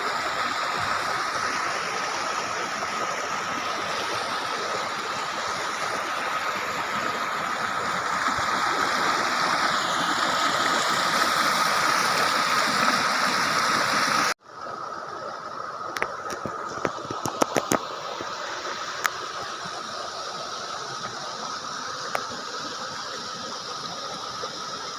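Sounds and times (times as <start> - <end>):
rushing stream water: 0.0 - 24.9.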